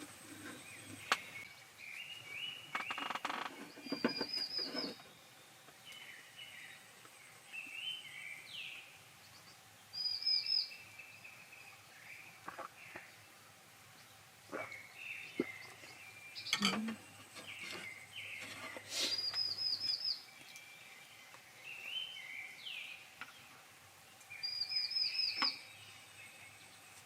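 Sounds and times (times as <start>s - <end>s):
birds chirping and singing: 0.0s - 13.3s, 13.9s - 27.0s.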